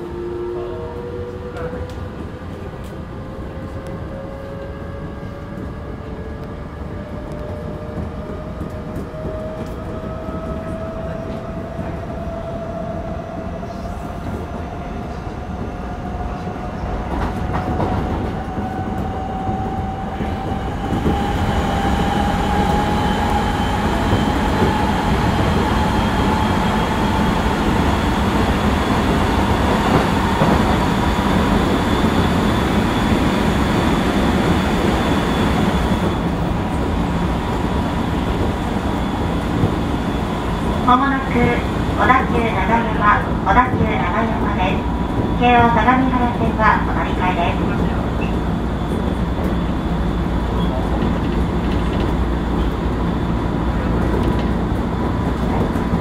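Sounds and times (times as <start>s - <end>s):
wheel and track rumble: 3.7s - 56.0s.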